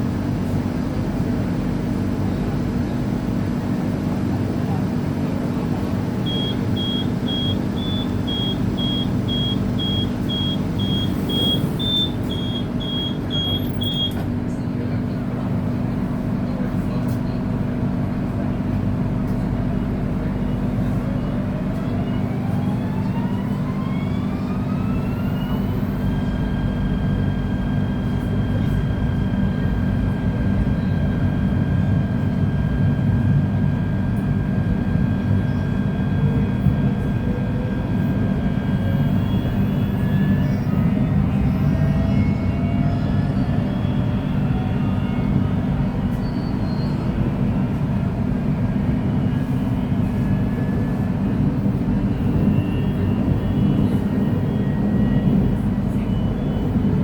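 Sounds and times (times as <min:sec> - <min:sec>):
electric train inverter whine: 0:00.0 - 0:16.6, 0:17.2 - 0:57.0
wheels rumbling on rail: 0:00.0 - 0:57.0.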